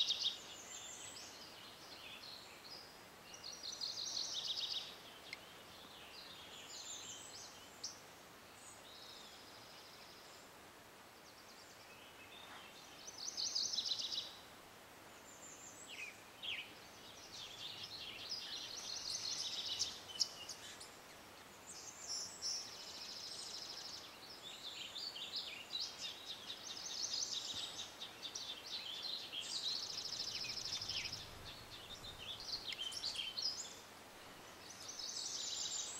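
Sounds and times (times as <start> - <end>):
faint steady hiss: 0.0 - 35.9
songbirds singing: 0.0 - 35.9.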